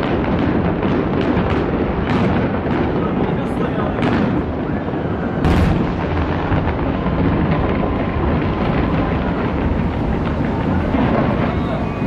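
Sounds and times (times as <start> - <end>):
distant fireworks booming and crackling: 0.0 - 12.0
loud firework bang: 0.0 - 12.0.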